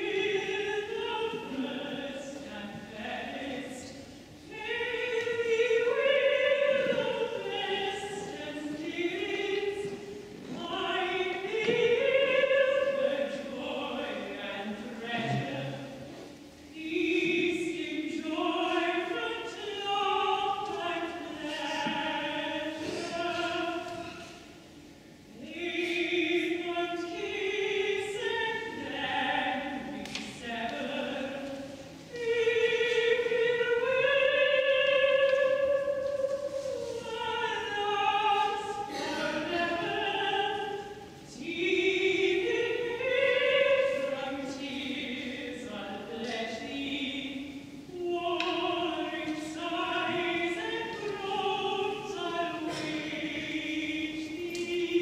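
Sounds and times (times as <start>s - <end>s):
woman singing operatically: 0.0s - 15.9s, 16.7s - 24.1s, 25.3s - 55.0s.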